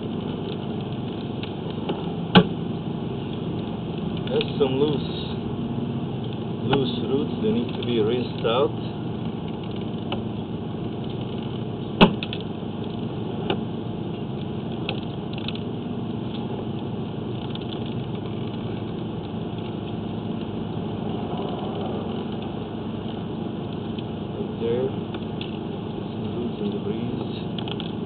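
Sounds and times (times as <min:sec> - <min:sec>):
engine-like running noise: 0:00.0 - 0:28.0.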